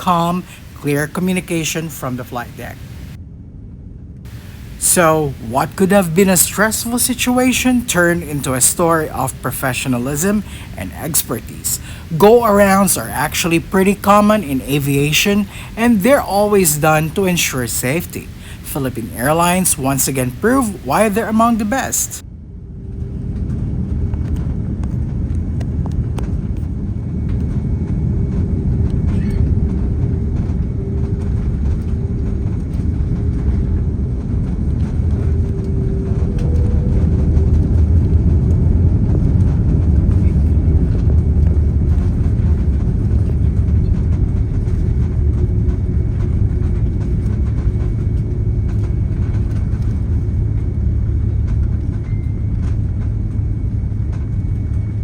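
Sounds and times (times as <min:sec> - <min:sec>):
airliner engine rumble: 0:00.0 - 0:55.0
steady whine: 0:00.0 - 0:55.0.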